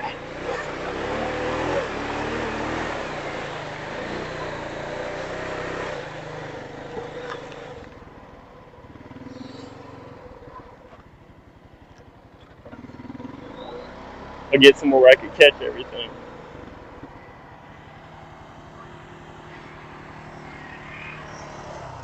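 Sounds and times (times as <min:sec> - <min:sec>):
four-wheeler engine revving and idling: 0:00.0 - 0:14.6, 0:15.2 - 0:22.0.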